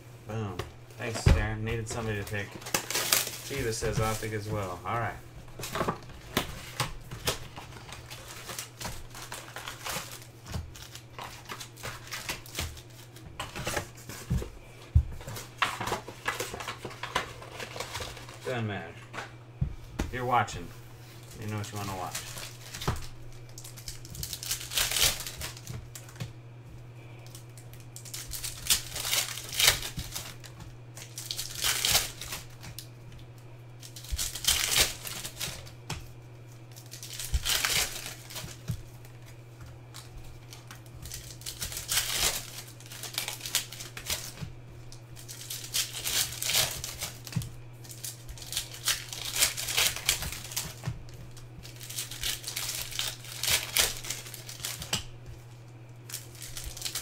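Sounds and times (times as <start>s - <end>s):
steady low hum: 0.0s - 57.0s
plastic wrappers crinkling and tearing: 1.0s - 19.3s, 20.2s - 26.4s, 27.0s - 57.0s.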